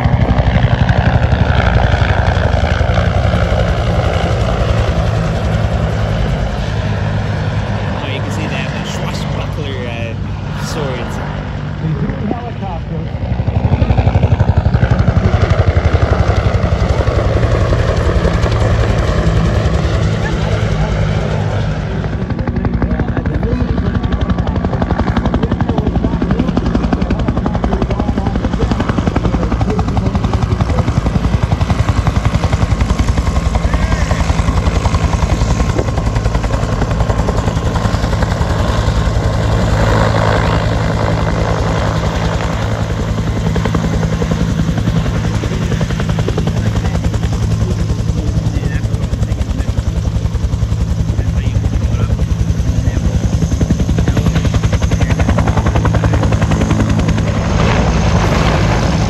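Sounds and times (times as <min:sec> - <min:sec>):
helicopter rotor beating: 0:00.0 - 0:59.0
turbine whine: 0:00.0 - 0:59.0.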